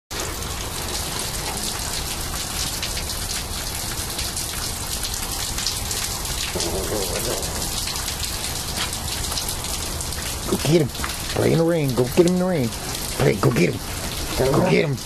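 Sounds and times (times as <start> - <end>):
steady rain falling: 0.1 - 15.0.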